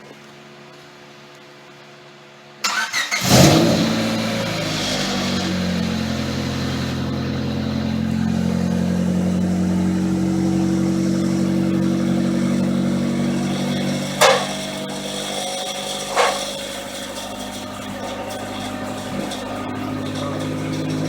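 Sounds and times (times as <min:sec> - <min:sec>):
car engine idling: 0:03.2 - 0:21.0.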